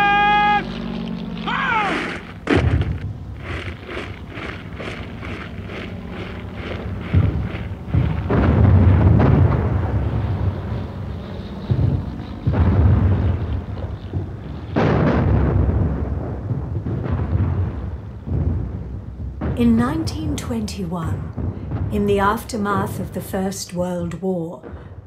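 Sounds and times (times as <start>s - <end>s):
artillery explosions booming: 0.0s - 25.0s.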